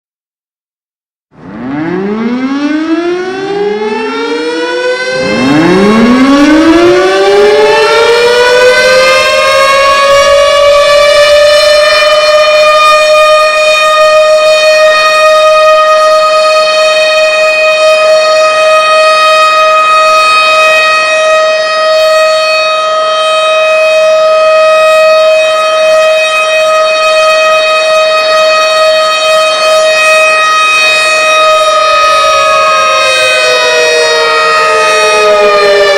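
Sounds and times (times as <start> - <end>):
tornado sirens wailing: 1.4 - 35.9.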